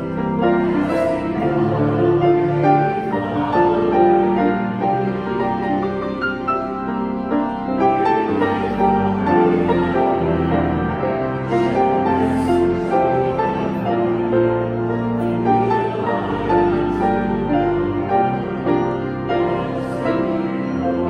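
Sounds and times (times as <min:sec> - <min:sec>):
piano playing a slow hymn: 0:00.0 - 0:21.0.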